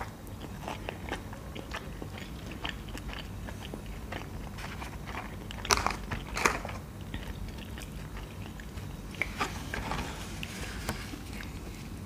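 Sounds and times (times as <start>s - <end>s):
people chewing food: 0.0s - 12.0s.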